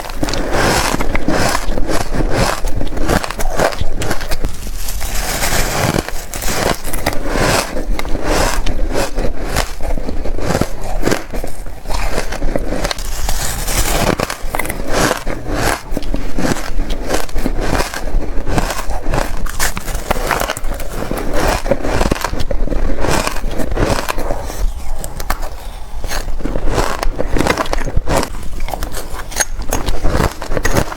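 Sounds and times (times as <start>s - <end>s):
ice being crunched and chewed: 0.0s - 30.9s.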